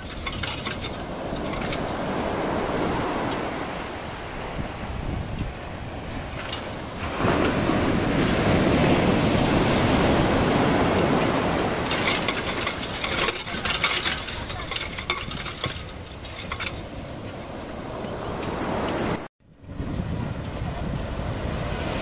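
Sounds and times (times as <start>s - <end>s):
wave rushing: 0.0s - 22.0s.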